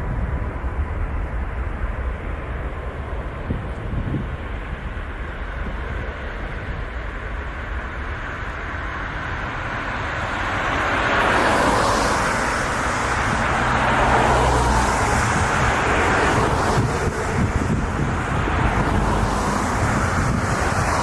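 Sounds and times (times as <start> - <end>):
jet engines passing: 0.0 - 21.0
wind rumble on microphone: 0.0 - 21.0.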